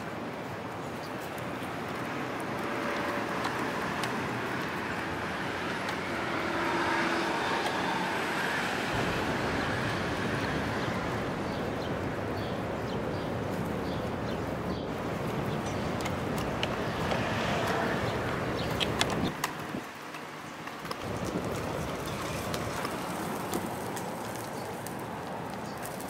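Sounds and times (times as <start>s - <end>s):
steady outdoor background noise: 0.0s - 26.0s.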